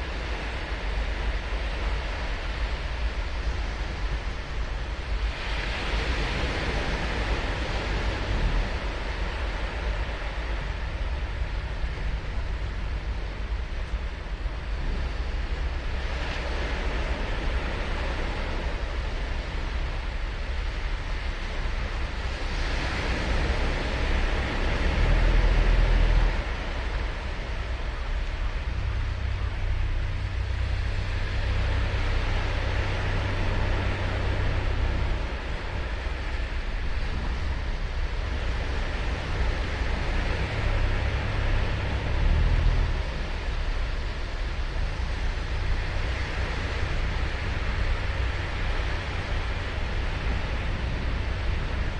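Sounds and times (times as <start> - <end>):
ocean waves breaking on beach: 0.0 - 51.9
wind rumble on microphone: 0.0 - 51.9.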